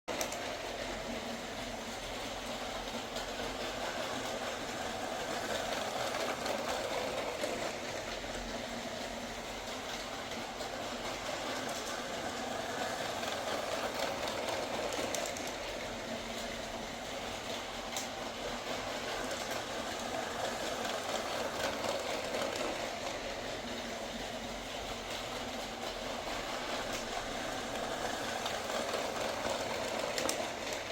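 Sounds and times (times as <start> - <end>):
toy train motor whirring: 0.1 - 30.9.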